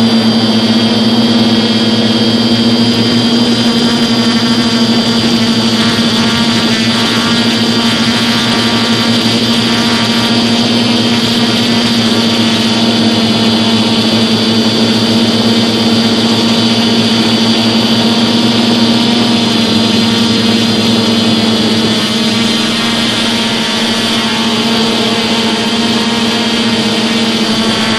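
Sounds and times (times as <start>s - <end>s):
quadcopter propellers whirring: 0.0s - 27.9s.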